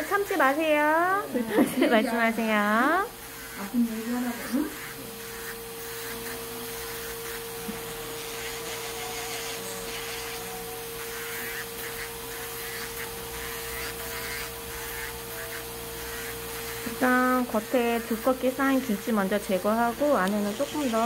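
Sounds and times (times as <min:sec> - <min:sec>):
electric nail drill humming: 0:00.0 - 0:21.0.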